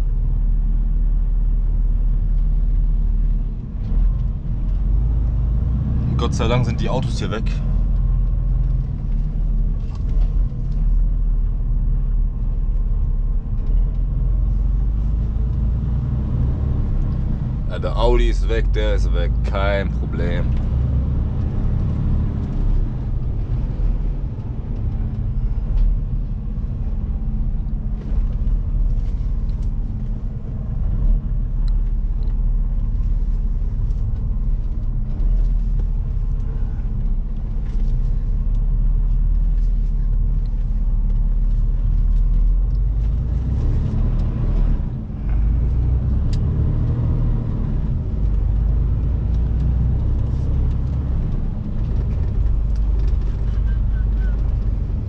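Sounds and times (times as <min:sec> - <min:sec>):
truck diesel engine rumble: 0:00.0 - 0:55.0.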